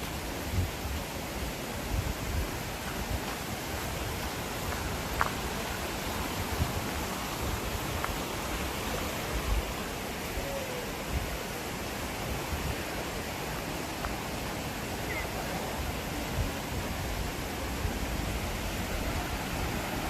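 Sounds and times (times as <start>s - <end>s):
steady outdoor rushing noise: 0.0s - 20.0s.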